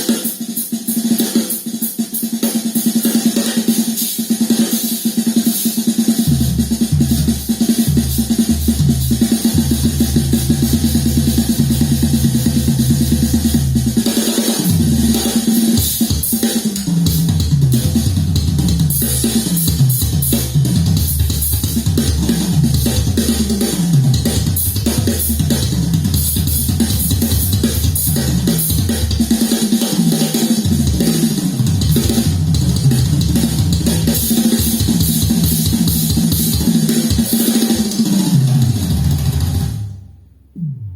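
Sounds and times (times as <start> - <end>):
bass drum and snare: 0.0 - 40.9
drum rolling fills: 0.0 - 40.9.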